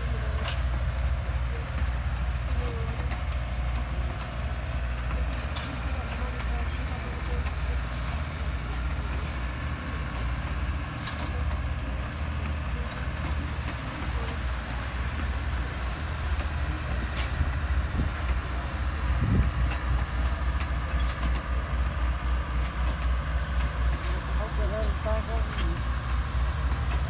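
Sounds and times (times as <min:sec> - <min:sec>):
wheels rumbling on rail: 0:00.0 - 0:27.0.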